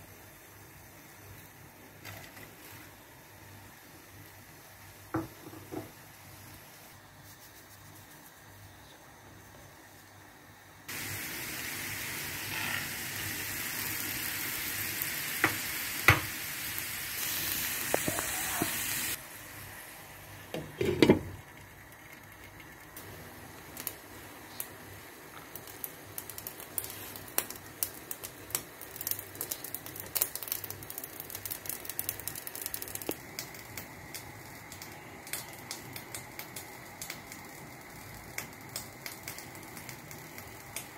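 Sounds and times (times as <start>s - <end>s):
food sizzling in a pan: 0.0s - 8.8s, 9.8s - 40.9s
soft crackling and stirring: 0.6s - 11.1s, 17.0s - 40.9s.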